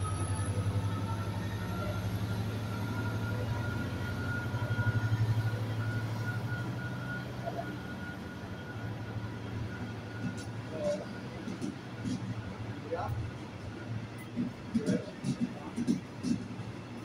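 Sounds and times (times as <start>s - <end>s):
train running with low hum: 0.0s - 17.0s.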